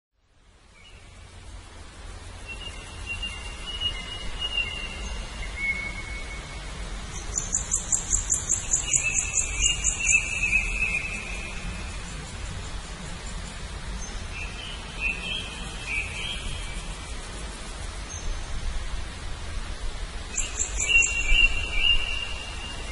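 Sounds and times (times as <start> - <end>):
low steady rumble: 0.2 - 20.3.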